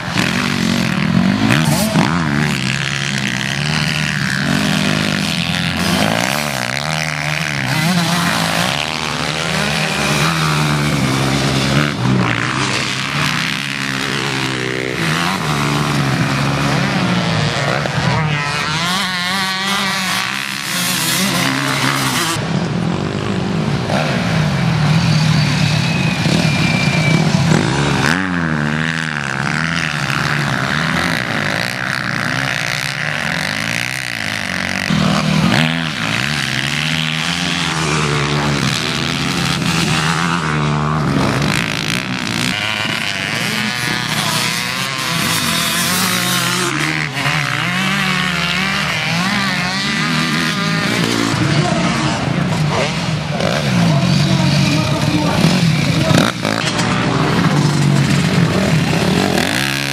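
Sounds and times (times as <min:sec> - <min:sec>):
motocross engines revving: 0:00.0 - 0:59.9.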